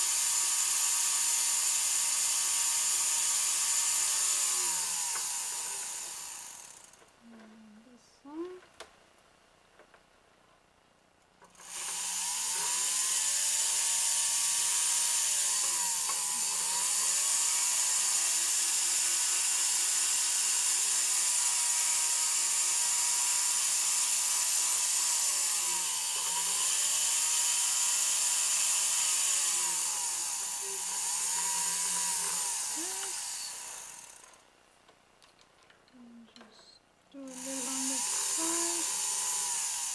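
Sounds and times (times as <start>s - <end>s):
rotary tool whining: 0.0s - 7.2s, 11.4s - 34.5s, 37.2s - 39.9s.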